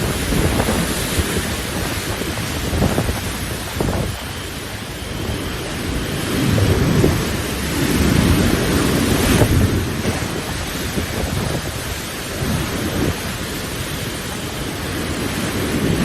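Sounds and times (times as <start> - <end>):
heavy rain: 0.0 - 16.0
wind buffeting microphone: 0.0 - 16.0
wind gusting: 0.0 - 16.0.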